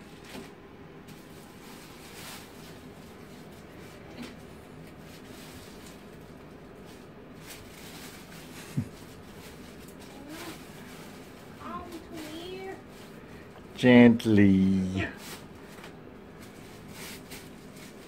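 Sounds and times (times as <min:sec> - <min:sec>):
styrofoam packing rustling: 0:00.1 - 0:13.4, 0:14.3 - 0:18.0
plastic bag crinkling: 0:01.1 - 0:13.4, 0:15.0 - 0:18.0.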